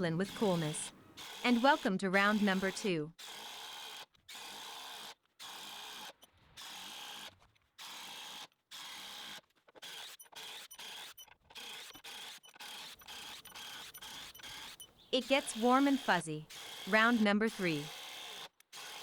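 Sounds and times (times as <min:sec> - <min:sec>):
impact driver driving screws: 0:01.2 - 0:19.0.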